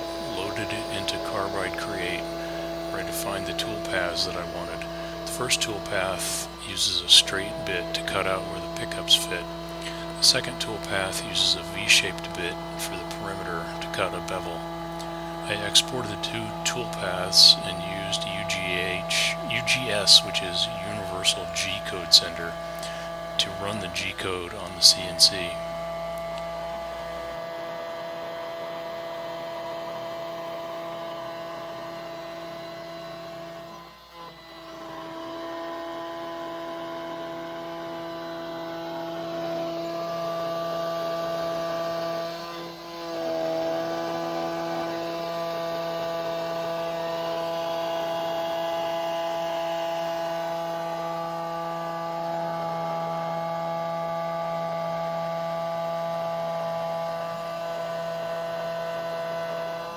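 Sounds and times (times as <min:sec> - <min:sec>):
cnc router spindle whine: 0:00.0 - 0:59.9
router hum: 0:00.0 - 0:59.9.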